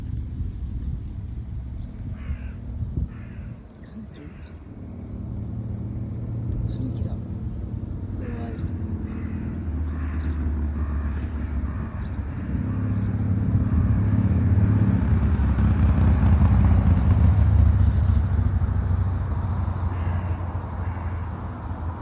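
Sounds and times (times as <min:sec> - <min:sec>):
low motor vehicle rumble: 0:00.0 - 0:22.0.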